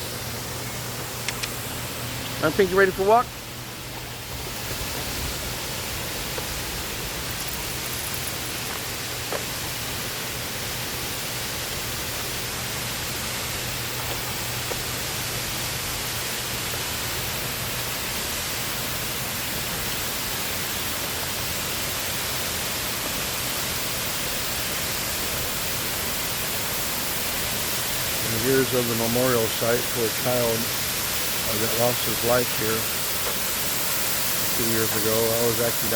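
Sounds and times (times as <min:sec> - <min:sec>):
waterfall rushing: 0:01.9 - 0:35.9.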